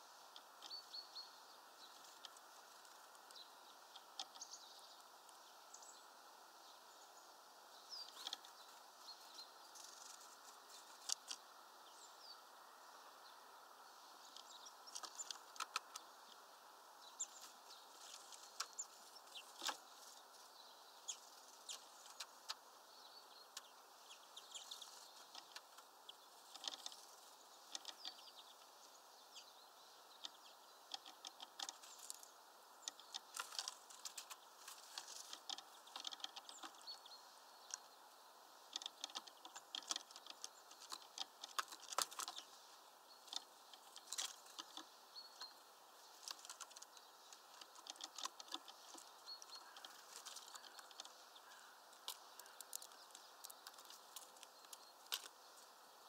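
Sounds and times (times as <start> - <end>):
bird pecking at suet: 1.8 - 5.4, 8.0 - 11.7, 14.1 - 29.2, 29.8 - 55.8.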